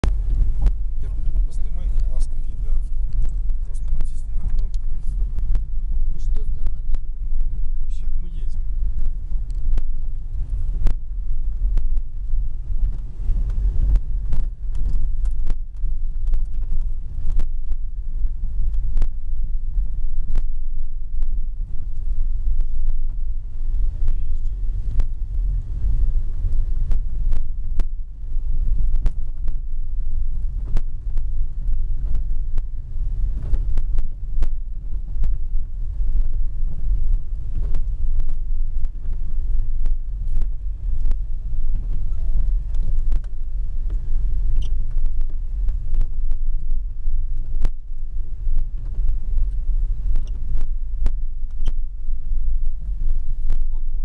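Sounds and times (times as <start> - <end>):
car cabin low rumble: 0.0 - 54.0.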